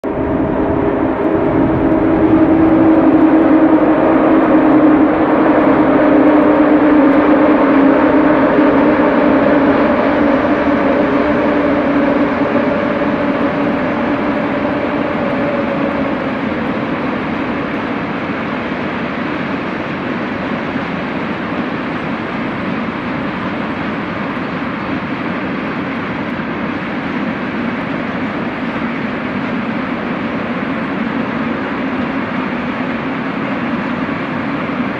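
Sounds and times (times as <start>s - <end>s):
steady electric hum: 0.0s - 28.8s
train rumbling past: 0.0s - 34.9s.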